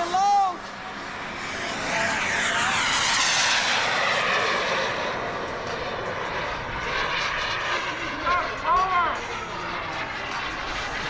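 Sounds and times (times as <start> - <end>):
model jet passing by: 0.0 - 11.0.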